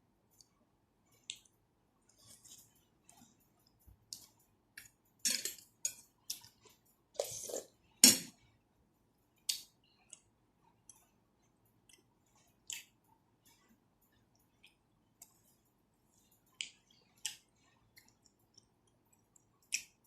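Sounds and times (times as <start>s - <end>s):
close chewing and mouth clicks: 0.3s - 7.8s, 9.4s - 20.0s.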